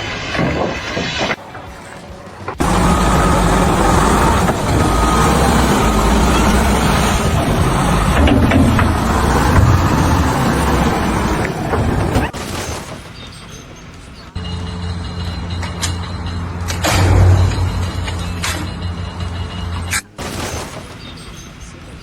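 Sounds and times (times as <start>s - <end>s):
heavy engine rumbling: 0.0s - 22.0s.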